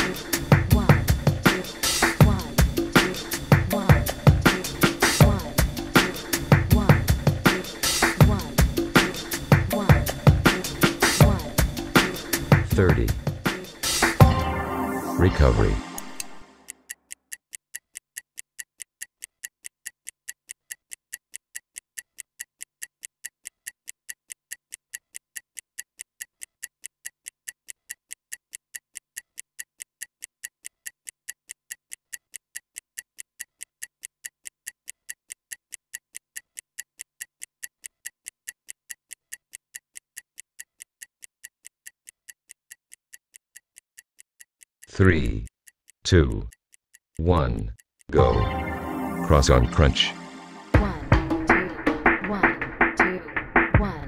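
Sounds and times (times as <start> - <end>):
stopwatch ticking: 0.0 - 14.2, 16.0 - 48.1.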